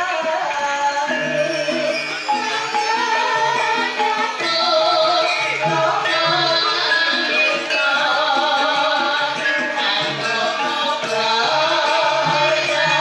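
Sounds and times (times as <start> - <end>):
metallophones and gongs ringing: 0.0 - 13.0
person singing: 0.0 - 13.0.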